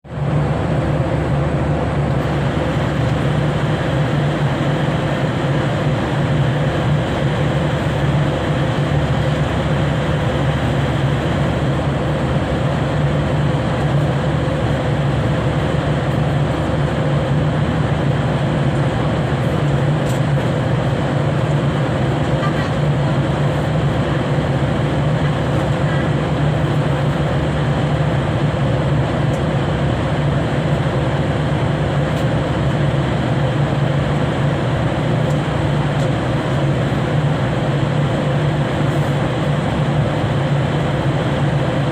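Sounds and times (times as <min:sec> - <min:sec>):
constant low hum: 0:00.0 - 0:41.9.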